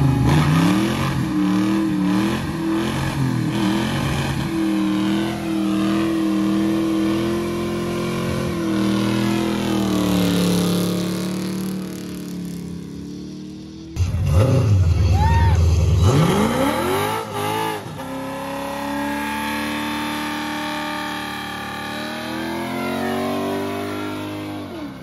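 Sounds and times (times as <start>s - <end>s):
car engine revving hard: 0.0s - 12.1s, 15.9s - 25.0s.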